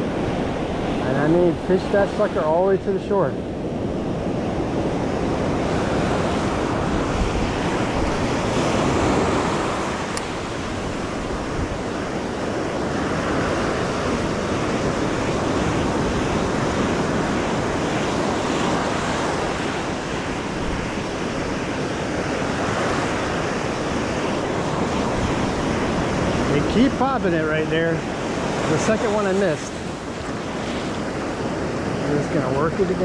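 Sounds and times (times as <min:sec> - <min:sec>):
waves breaking on beach: 0:00.0 - 0:33.0
wind buffeting microphone: 0:00.0 - 0:33.0.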